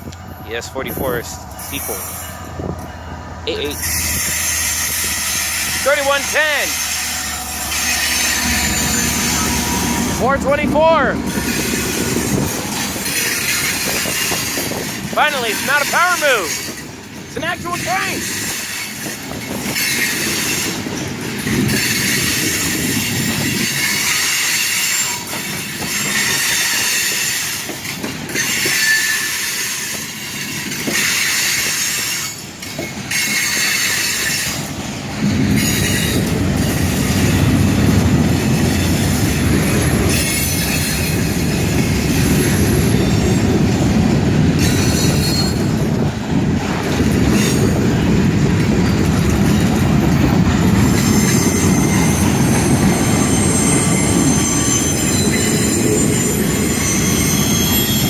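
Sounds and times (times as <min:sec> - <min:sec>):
low train rumble: 0:00.0 - 0:58.0
steel wheels squealing on rails: 0:00.0 - 0:58.0.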